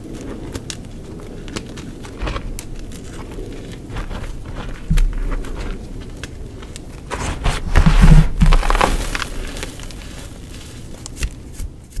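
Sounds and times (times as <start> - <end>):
chalk crunching and crackling: 0.0 - 12.0.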